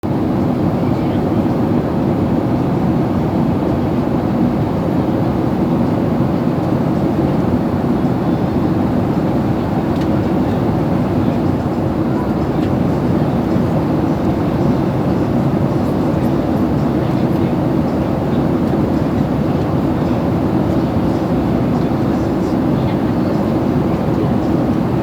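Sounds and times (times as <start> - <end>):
airliner cabin engine rush: 0.0 - 25.0.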